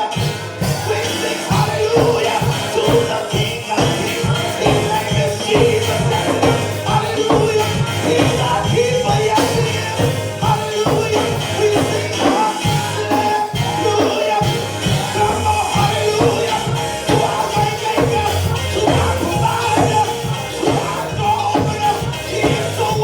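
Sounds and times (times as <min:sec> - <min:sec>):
gospel band playing: 0:00.0 - 0:23.0
people singing: 0:00.0 - 0:23.0.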